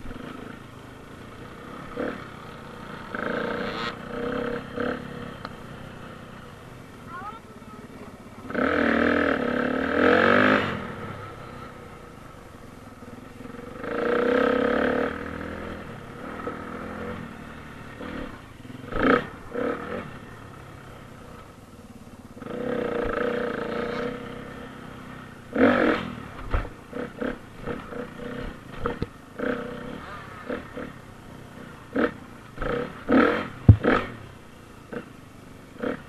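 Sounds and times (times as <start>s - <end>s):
dirt bike engine revving: 0.0s - 6.5s, 7.1s - 11.9s, 13.4s - 20.5s, 22.4s - 35.1s, 35.7s - 36.0s.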